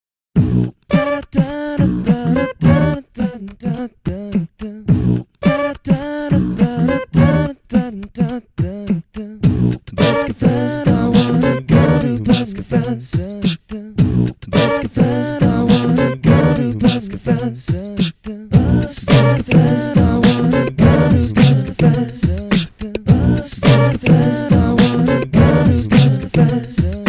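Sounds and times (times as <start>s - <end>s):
beatboxed rhythm: 0.4s - 27.0s
a cappella voices singing: 0.9s - 27.0s.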